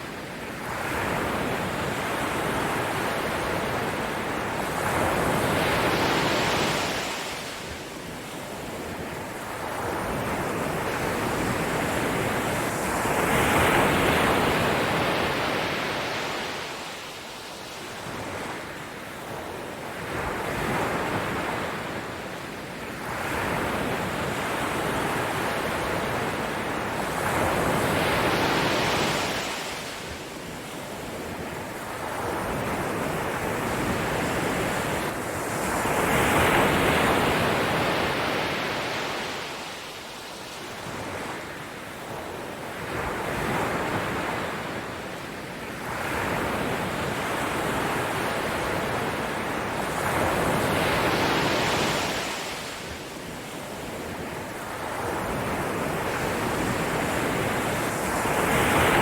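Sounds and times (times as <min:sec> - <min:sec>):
ocean waves washing onto shore: 0:00.0 - 0:59.0.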